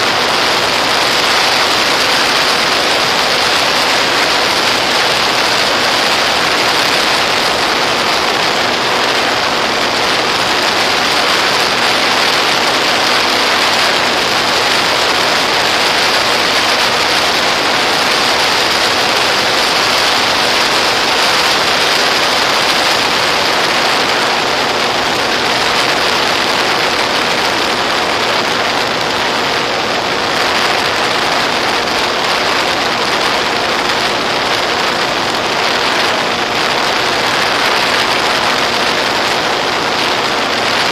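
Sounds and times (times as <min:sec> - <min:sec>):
electric motor and propeller hum: 0:00.0 - 0:40.9.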